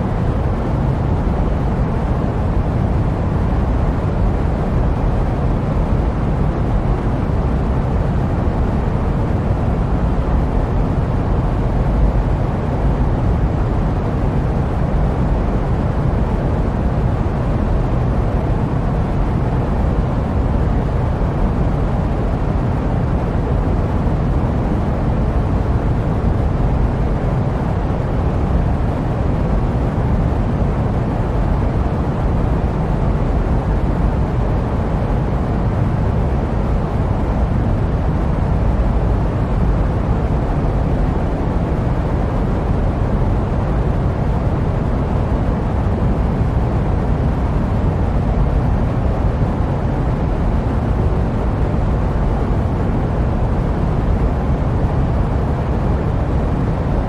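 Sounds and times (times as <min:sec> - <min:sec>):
jet airliner cabin noise: 0:00.0 - 0:57.0.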